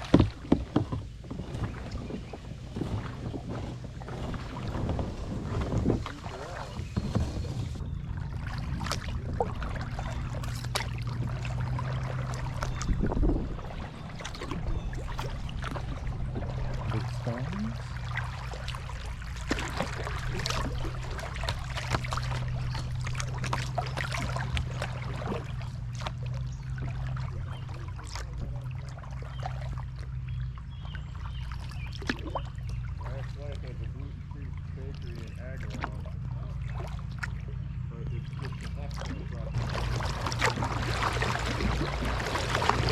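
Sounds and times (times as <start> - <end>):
paddle strokes in water: 0.0 - 42.9
steady low hum: 0.0 - 42.9.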